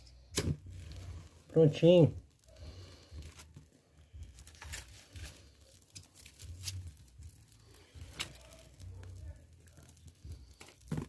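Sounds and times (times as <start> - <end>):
small fire crackling: 0.0 - 11.0.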